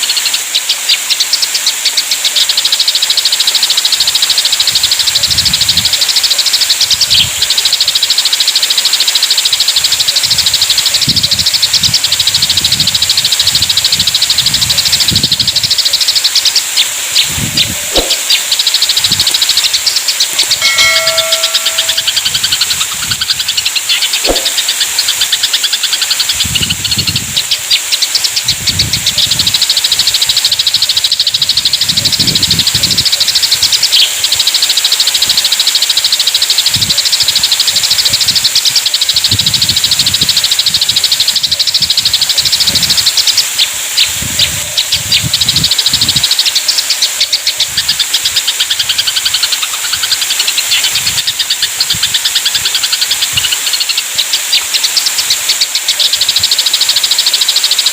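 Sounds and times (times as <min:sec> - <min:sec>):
sparrows chattering: 0:00.0 - 0:57.9
steady high hiss: 0:00.0 - 0:57.9.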